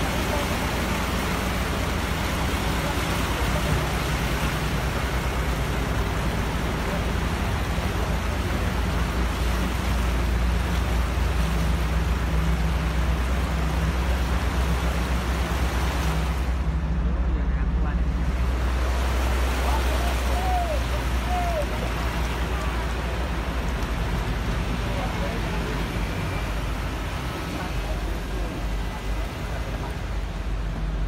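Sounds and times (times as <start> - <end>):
floodwater rushing and splashing: 0.0 - 31.0
vehicle engine hum: 0.0 - 31.0.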